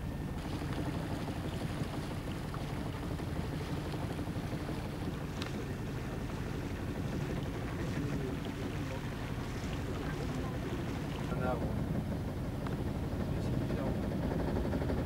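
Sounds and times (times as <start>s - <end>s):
boat engine humming: 0.0s - 15.0s
wind: 0.0s - 15.0s.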